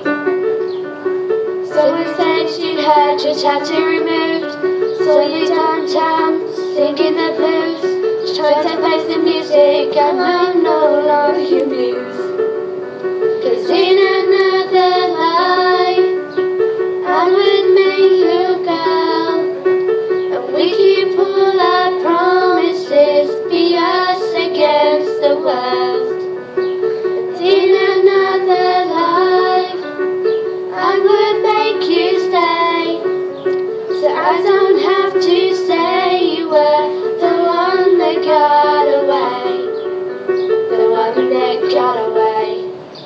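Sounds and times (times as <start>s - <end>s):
electronic keyboard repeating figure: 0.0s - 43.0s
girls singing together: 1.6s - 12.3s, 13.3s - 16.3s, 17.0s - 19.6s, 20.3s - 26.4s, 27.1s - 33.2s, 33.9s - 42.7s.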